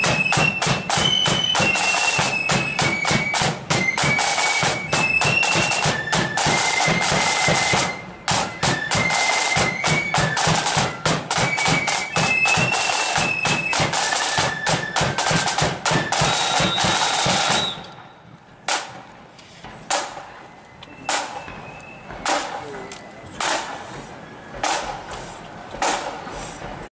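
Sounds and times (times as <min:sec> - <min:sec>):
snare drums: 0:00.0 - 0:18.0, 0:18.7 - 0:26.9
flutes playing: 0:00.0 - 0:25.5.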